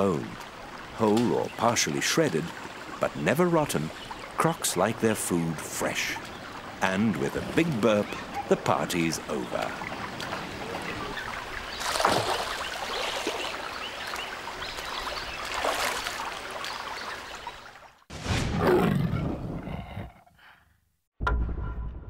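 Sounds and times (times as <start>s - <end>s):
rushing water: 0.0s - 18.1s.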